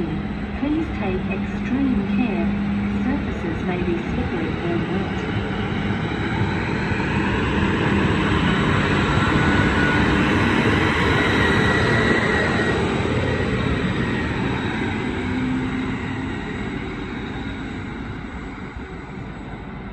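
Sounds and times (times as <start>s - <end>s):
diesel railcar engine and wheels: 0.0s - 19.9s.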